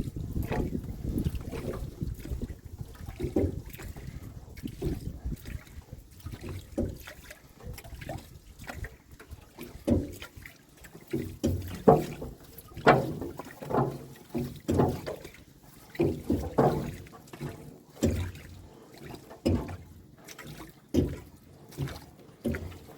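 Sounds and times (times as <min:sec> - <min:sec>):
water splashing and sloshing: 0:00.0 - 0:22.9.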